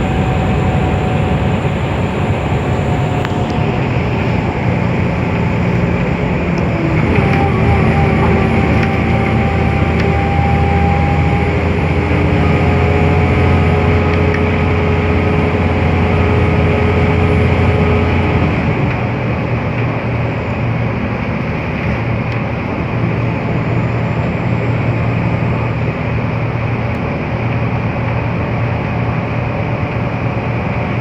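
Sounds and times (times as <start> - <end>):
bus engine drone: 0.0 - 31.0
whine of steady tones: 0.0 - 31.0.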